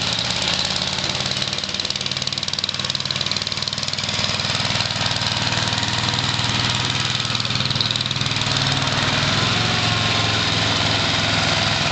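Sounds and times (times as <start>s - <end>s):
single-cylinder engine running: 0.0s - 11.9s.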